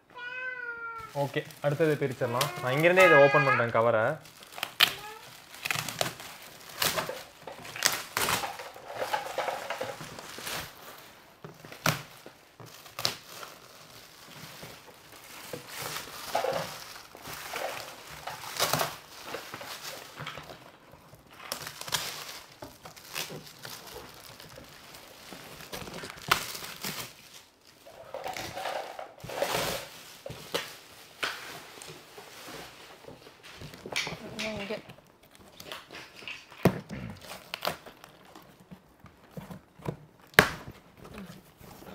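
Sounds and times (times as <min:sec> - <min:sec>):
foil wrapping crinkling: 0:00.8 - 0:41.9.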